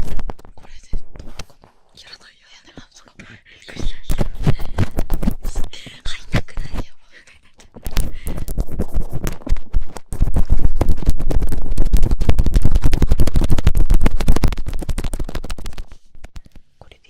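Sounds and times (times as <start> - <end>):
scratching and rubbing strokes: 0.0 - 3.0, 3.7 - 16.4.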